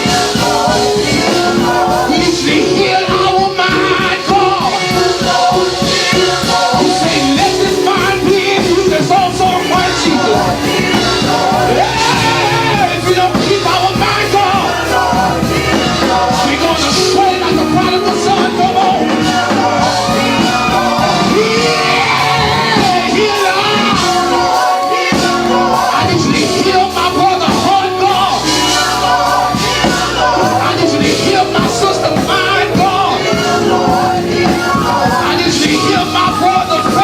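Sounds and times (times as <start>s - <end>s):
gospel band music: 0.0s - 37.0s.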